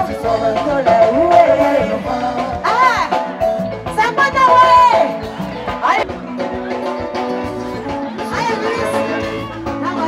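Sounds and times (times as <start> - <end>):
drums and percussion: 0.0 - 10.0.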